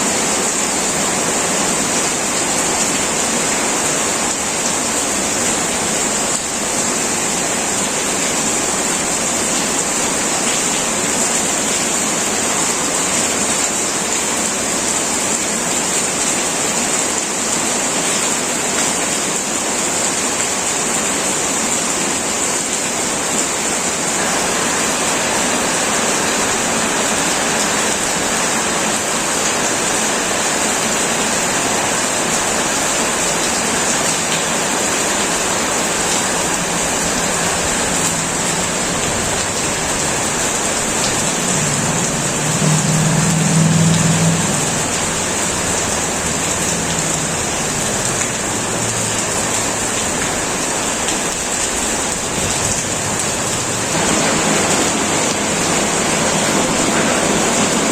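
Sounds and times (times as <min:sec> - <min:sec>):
heavy rain on a metal roof: 0:00.0 - 0:57.9.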